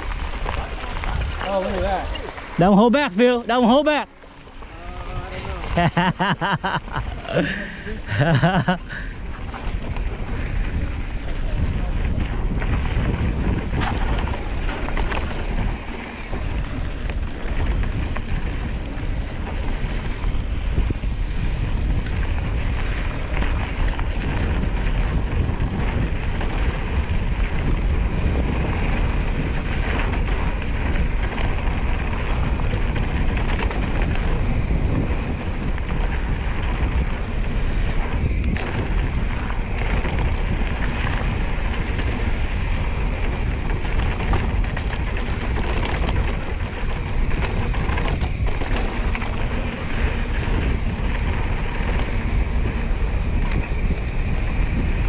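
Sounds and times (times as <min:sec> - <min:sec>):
bike clicks and rattles: 0:00.0 - 0:55.0
bike tyres rolling on dirt: 0:00.0 - 0:55.0
wind noise on microphone: 0:00.0 - 0:55.0.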